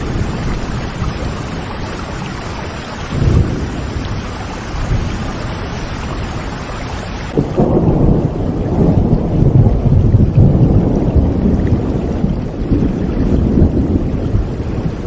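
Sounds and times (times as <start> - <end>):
rolling thunder rumble: 0.0 - 15.0
steady rain falling: 0.0 - 15.0.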